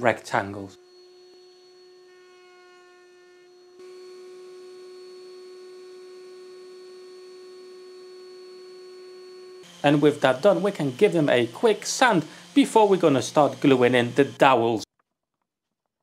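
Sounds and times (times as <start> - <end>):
router motor whine: 0.0 - 14.8.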